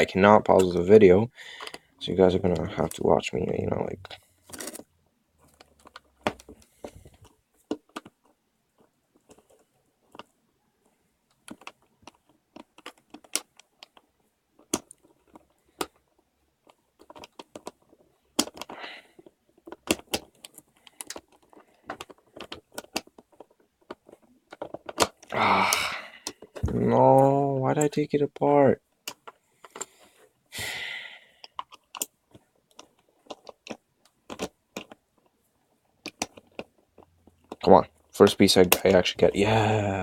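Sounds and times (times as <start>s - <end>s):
plastic puzzle pieces clicking: 1.5s - 1.9s, 4.0s - 28.0s, 28.8s - 30.3s, 31.3s - 39.7s.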